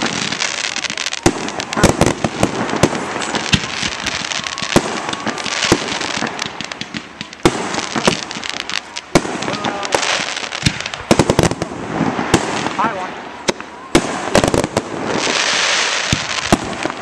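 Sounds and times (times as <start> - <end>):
crackle of sparks: 0.0 - 17.0
fireworks bangs: 0.0 - 17.0.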